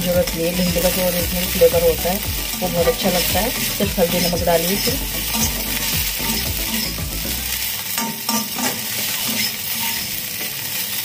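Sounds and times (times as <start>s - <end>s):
metal spatula scraping a pan: 0.0s - 11.0s
okra sizzling in a pan: 0.0s - 11.0s.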